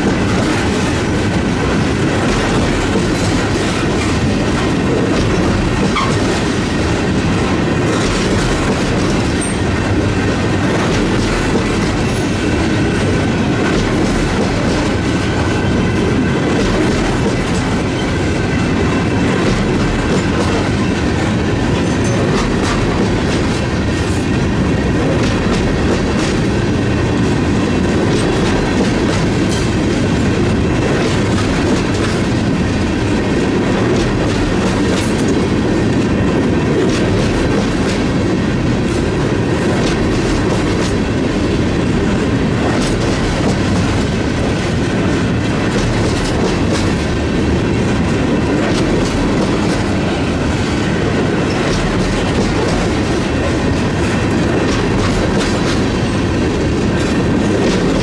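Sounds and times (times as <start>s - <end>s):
clickety-clack over rail joints: 0.0s - 58.0s
train wheels rumbling: 0.0s - 58.0s.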